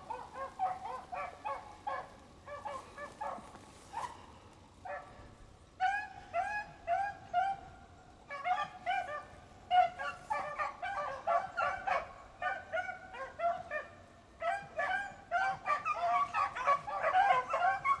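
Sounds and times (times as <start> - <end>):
hounds baying: 0.0 - 18.0.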